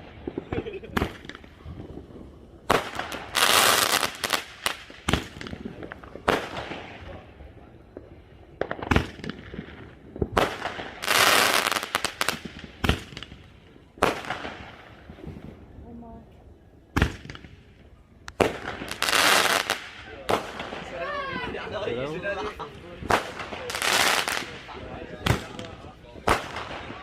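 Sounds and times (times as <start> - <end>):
fireworks bangs: 0.0 - 16.0, 16.9 - 21.6, 23.0 - 27.0
fireworks crackling hiss: 0.0 - 21.2, 22.7 - 27.0.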